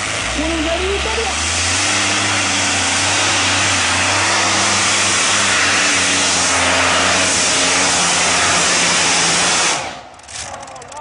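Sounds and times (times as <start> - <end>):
tractor engine at full throttle: 0.0 - 11.0.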